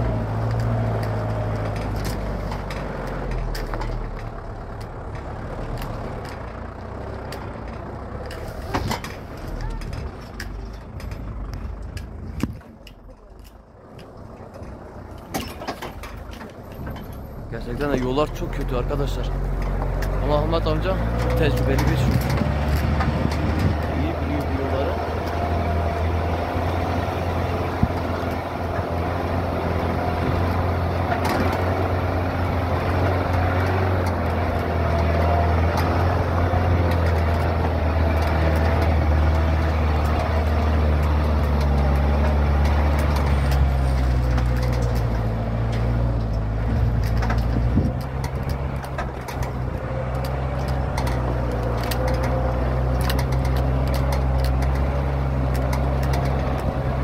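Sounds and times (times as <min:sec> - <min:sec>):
truck engine running: 0:00.0 - 0:57.0
truck rattling and knocking: 0:00.0 - 0:57.0.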